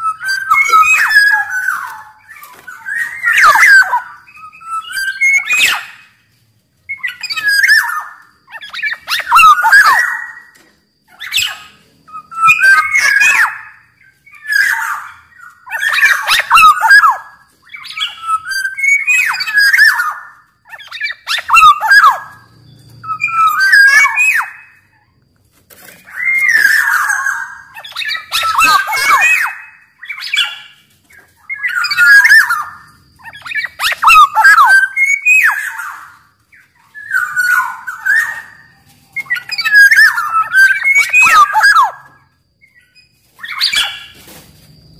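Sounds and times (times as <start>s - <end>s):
bird singing fluty whistles: 0.0s - 6.2s, 6.9s - 25.2s, 26.0s - 44.2s.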